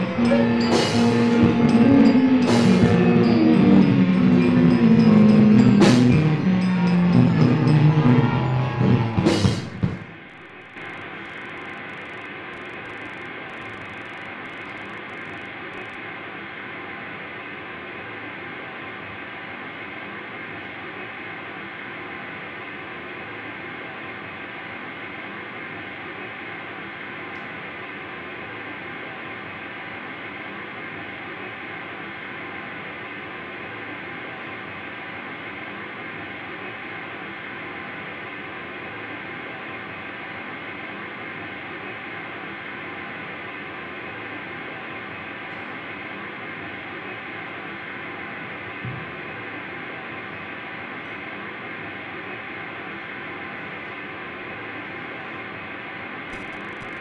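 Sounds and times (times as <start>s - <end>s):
ensemble playing noise cacophony: 0.0s - 57.0s.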